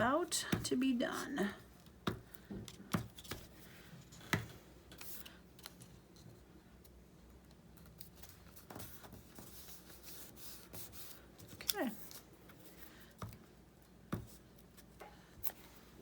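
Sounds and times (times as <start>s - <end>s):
soft rubbing and rustling of paper: 3.1s - 16.0s.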